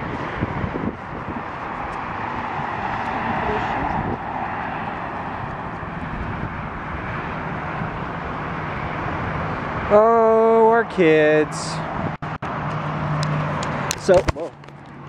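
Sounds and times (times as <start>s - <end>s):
distant engine noise: 0.0s - 15.0s.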